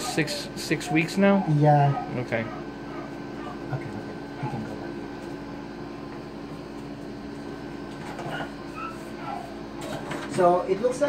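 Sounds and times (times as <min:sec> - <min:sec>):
mechanical hum of equipment: 0:00.0 - 0:11.0.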